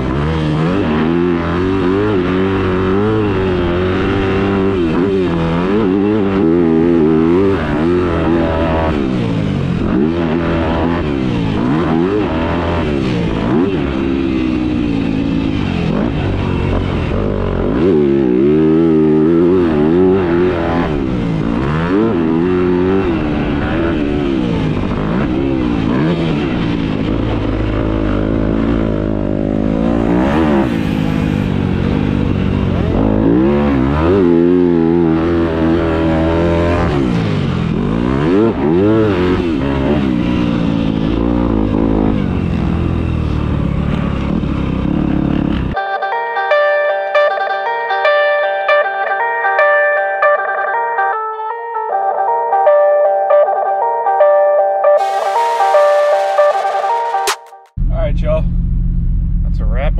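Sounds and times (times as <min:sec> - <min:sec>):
dirt bike engine revving: 0:00.0 - 0:45.8, 0:55.0 - 0:57.5.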